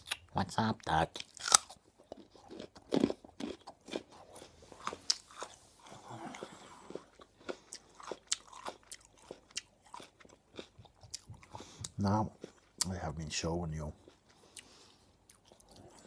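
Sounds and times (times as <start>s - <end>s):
raw carrot crunching: 1.0s - 16.0s.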